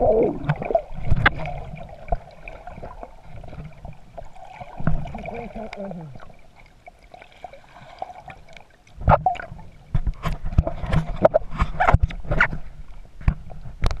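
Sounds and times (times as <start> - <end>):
muffled water sloshing underwater: 0.0 - 14.0
sharp knocks and splashes: 0.4 - 12.6.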